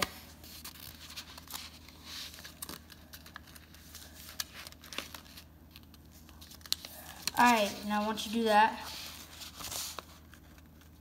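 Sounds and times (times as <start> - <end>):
paper rustling as folded: 0.0 - 11.0.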